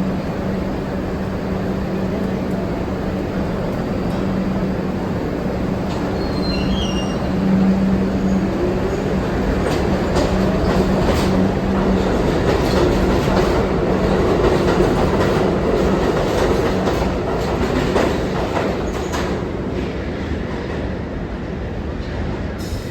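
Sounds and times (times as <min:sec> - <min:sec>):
subway car rumble: 0:00.0 - 0:22.9.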